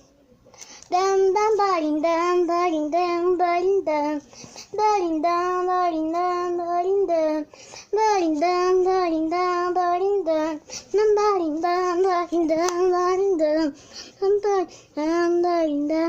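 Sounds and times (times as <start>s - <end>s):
girl singing long held notes: 0.9s - 16.0s.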